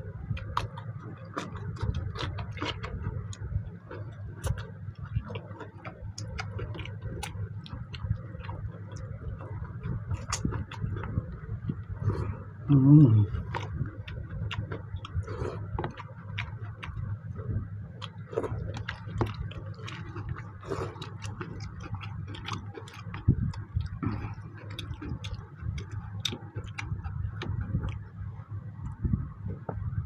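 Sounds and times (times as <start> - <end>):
steady low hum: 0.0 - 30.0
wet chewing and lip-smacking: 0.2 - 28.2.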